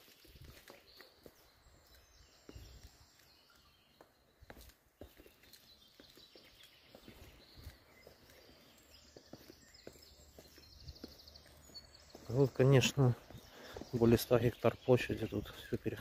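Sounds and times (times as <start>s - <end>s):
footsteps on concrete steps: 0.0s - 16.0s.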